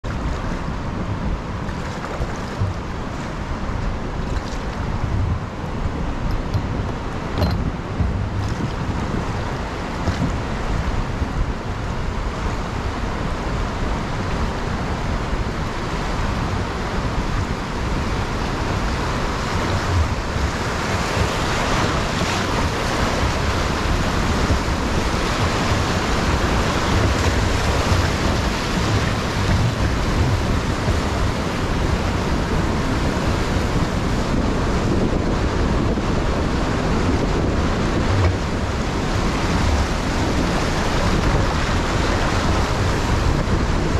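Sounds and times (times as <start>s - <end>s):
whitewater rushing: 0.0s - 43.9s
wind buffeting microphone: 0.0s - 43.9s.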